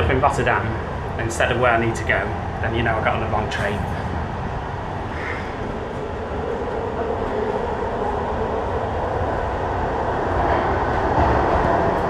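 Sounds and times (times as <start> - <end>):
train rumble and hiss: 0.0 - 12.0.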